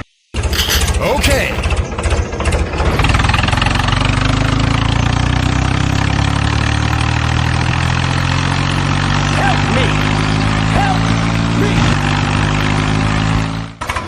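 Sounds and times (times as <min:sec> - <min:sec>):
tractor engine chugging: 0:00.4 - 0:14.0.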